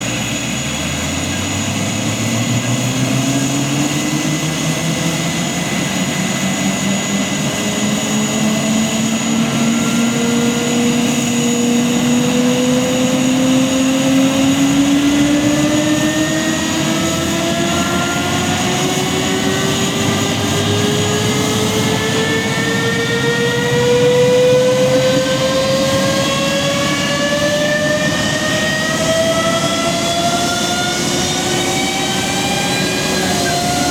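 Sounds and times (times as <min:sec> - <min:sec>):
jet engine whine spooling up: 0:00.0 - 0:33.9.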